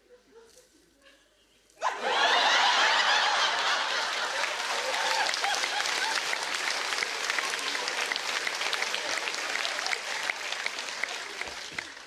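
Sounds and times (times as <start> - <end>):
audience applause: 1.8 - 12.0.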